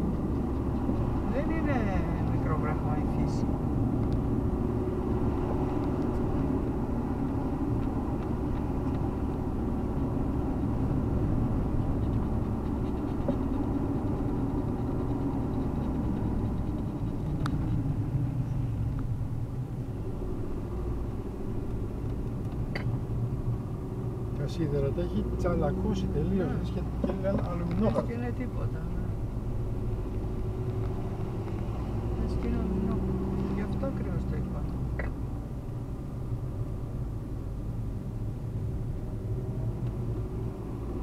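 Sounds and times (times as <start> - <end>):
car engine and tyre rumble: 0.0 - 41.0.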